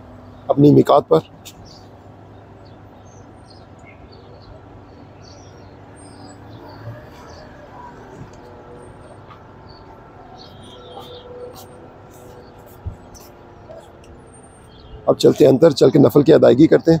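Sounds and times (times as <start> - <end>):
high bird chirps: 1.4 - 16.1.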